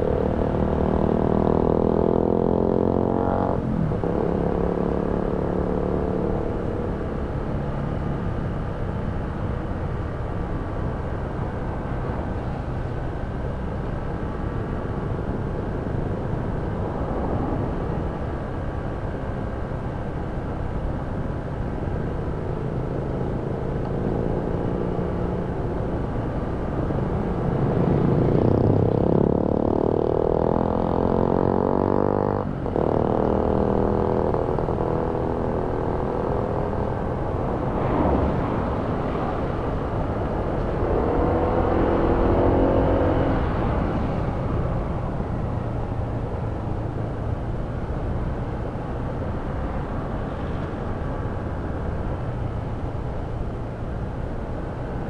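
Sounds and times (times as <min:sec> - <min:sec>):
steady rushing noise: 0:03.6 - 0:30.7, 0:32.4 - 0:55.0.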